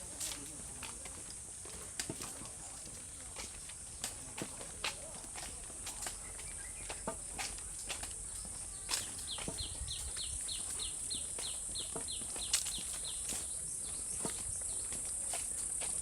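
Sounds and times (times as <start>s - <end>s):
footsteps crunching on trail: 0.0s - 16.0s.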